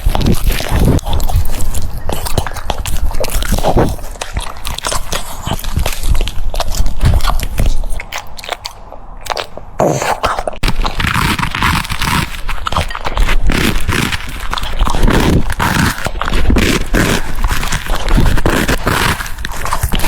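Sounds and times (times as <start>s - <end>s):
dog chewing and crunching food: 0.0s - 20.0s.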